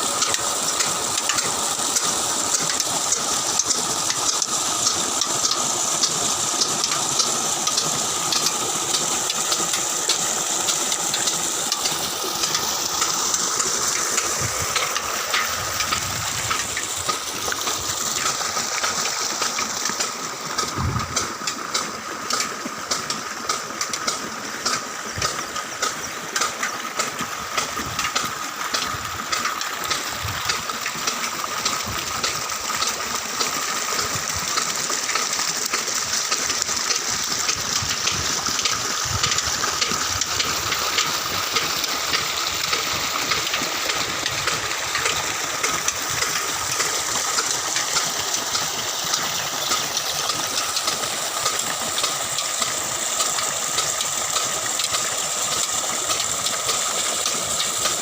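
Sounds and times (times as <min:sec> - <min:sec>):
old engine running: 0:00.0 - 0:58.0.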